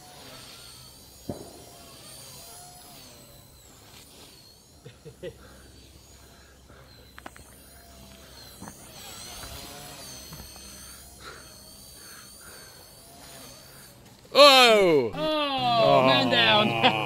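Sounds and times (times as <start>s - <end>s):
rc helicopter whine: 0.0s - 17.0s.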